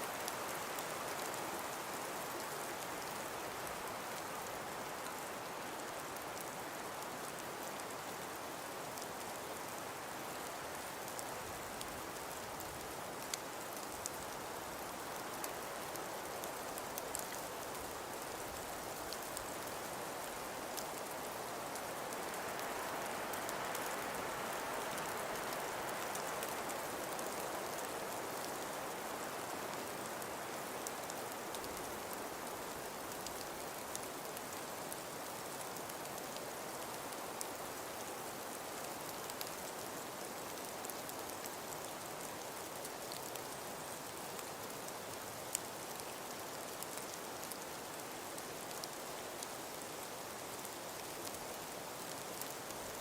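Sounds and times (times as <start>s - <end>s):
snow falling with faint ticks: 0.0s - 53.0s
wind: 0.0s - 53.0s.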